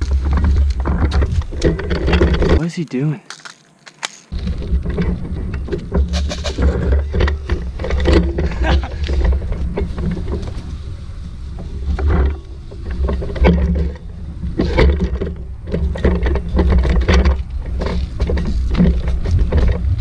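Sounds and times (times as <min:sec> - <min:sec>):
rustling and knocking: 0:00.0 - 0:02.6, 0:03.4 - 0:10.9, 0:11.5 - 0:20.0.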